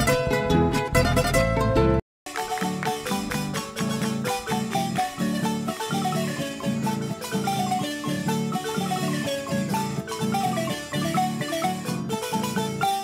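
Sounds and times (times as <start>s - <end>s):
marimba ensemble music: 0.0s - 13.0s.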